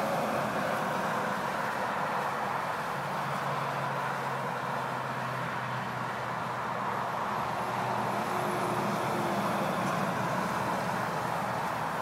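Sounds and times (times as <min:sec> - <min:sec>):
highway traffic hiss: 0:00.0 - 0:12.0.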